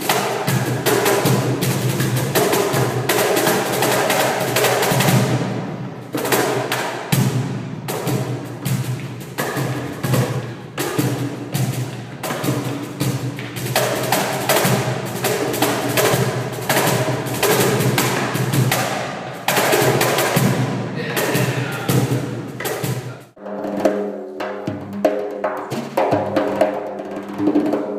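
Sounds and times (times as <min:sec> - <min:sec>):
cajon played with hands: 0:00.0 - 0:05.4, 0:06.2 - 0:27.9.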